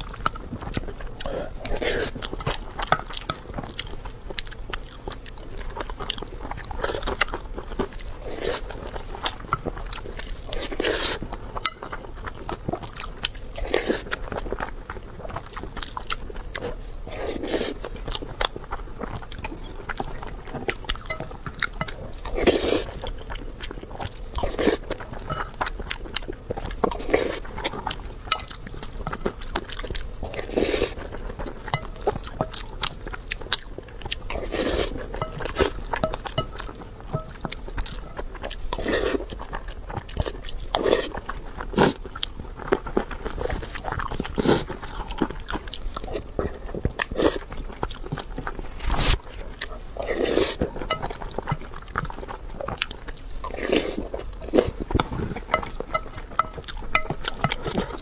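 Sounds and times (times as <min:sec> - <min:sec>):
chewing and biting: 0:00.0 - 0:58.0.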